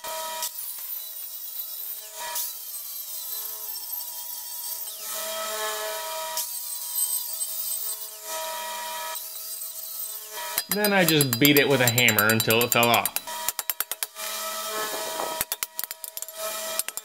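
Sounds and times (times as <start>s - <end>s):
angle grinder cutting steel: 0.2s - 17.0s.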